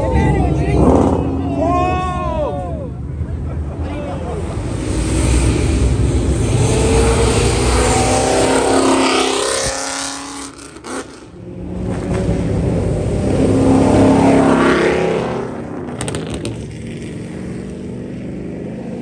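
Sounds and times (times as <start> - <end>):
car accelerating and passing by: 0.0 - 2.4, 4.1 - 19.0
second car engine: 0.0 - 19.0.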